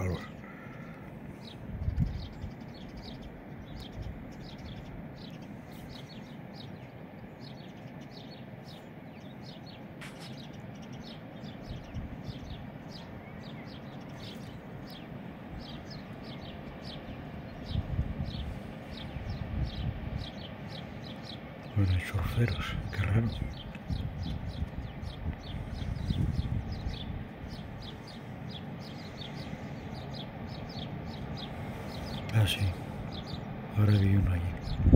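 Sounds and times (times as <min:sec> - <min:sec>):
low outdoor rush: 0:00.0 - 0:34.9
small birds chirping: 0:00.0 - 0:34.9.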